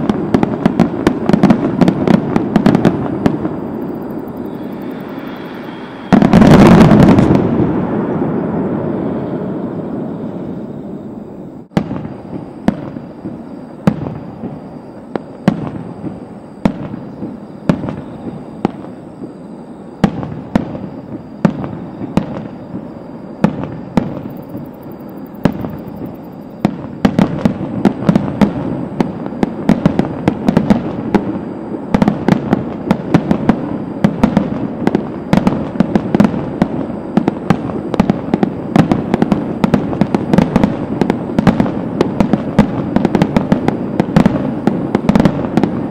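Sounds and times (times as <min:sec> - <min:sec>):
distant fireworks bangs: 0:00.0 - 0:10.6, 0:11.7 - 0:45.9.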